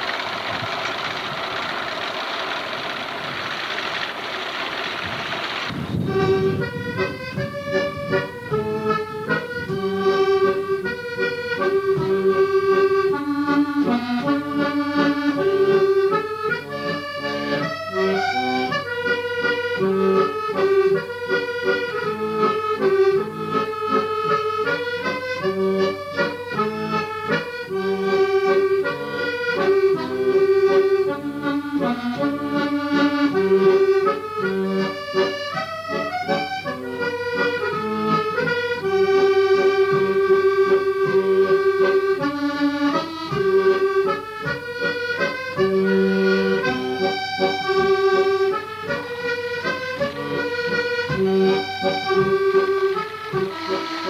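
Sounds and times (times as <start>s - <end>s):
accordion tune: 0.0s - 54.0s.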